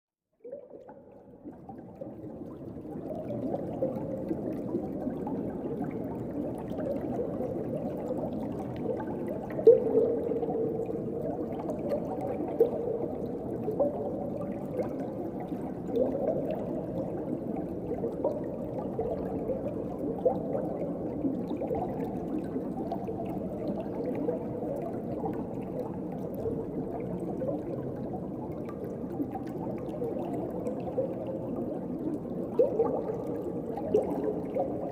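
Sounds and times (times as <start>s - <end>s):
bubbling gurgles: 0.4s - 34.9s
underwater ocean wash: 0.4s - 34.9s.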